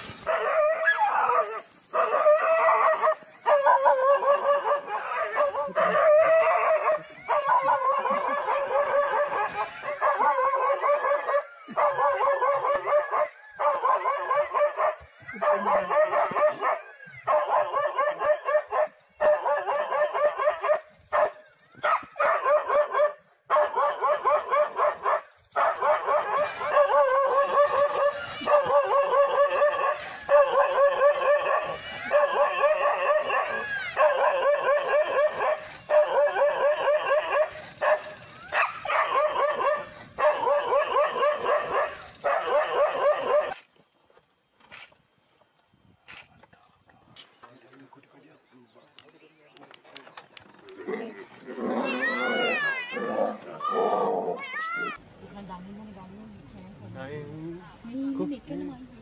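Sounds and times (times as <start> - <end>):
dogs barking and yapping: 0.0 - 43.9, 50.4 - 55.2.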